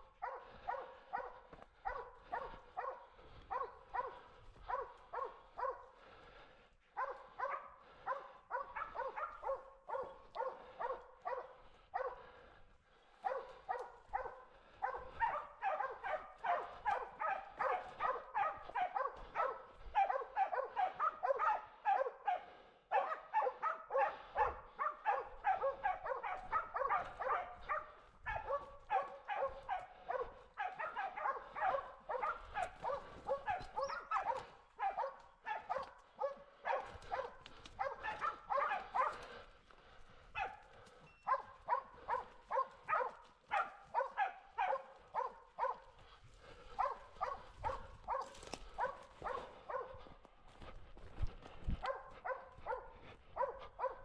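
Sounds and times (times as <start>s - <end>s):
hunting dogs baying: 0.0s - 54.0s.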